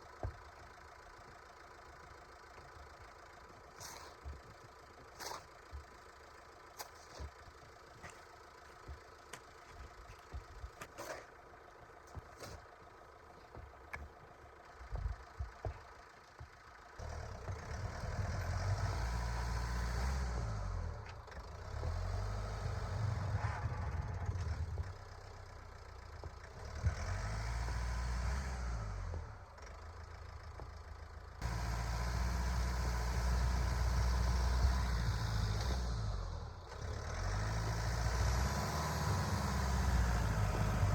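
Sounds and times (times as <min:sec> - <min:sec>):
van engine rumbling: 0:00.0 - 0:40.9.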